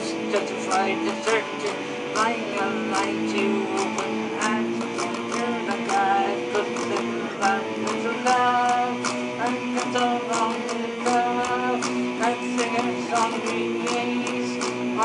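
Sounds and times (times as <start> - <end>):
guitar strumming rock chords: 0.0 - 15.0.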